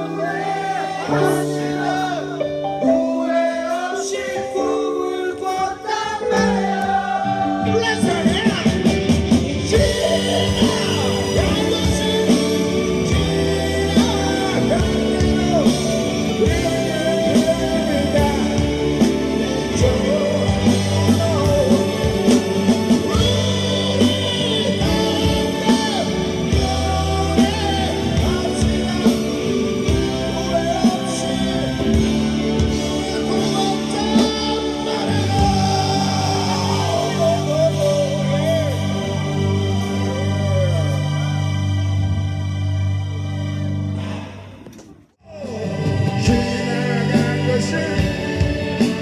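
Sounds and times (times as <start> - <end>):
person singing: 0.0 - 41.8, 45.2 - 49.0
live rock band playing: 5.6 - 42.2, 45.6 - 49.0.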